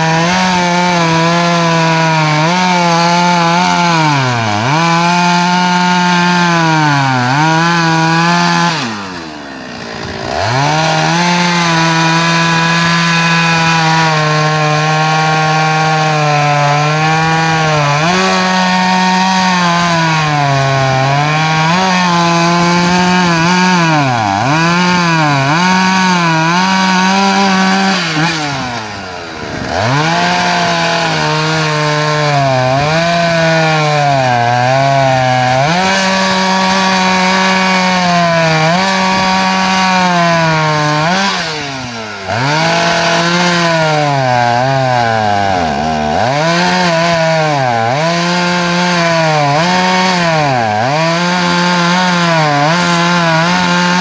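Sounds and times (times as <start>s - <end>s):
chainsaw cutting a log: 0.0s - 54.0s.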